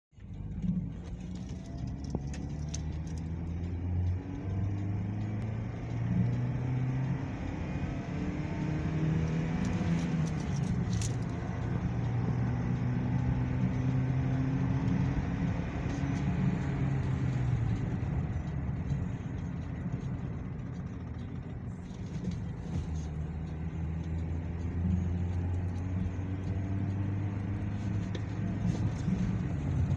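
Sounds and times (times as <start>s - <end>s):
car engine accelerating: 0.2s - 29.9s.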